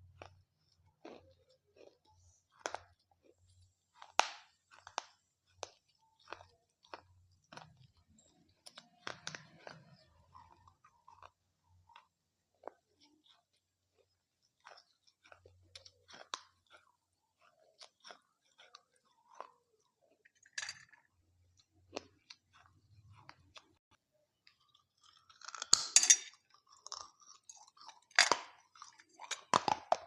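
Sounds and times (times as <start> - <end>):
chewing crisp wafers: 0.0 - 30.0.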